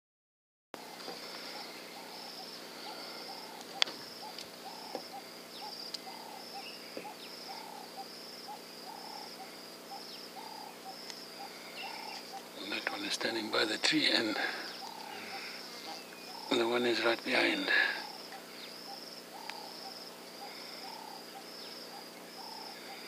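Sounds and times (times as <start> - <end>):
bird hooting low notes: 0.8 - 23.0
high pulsing bird call: 0.8 - 23.0.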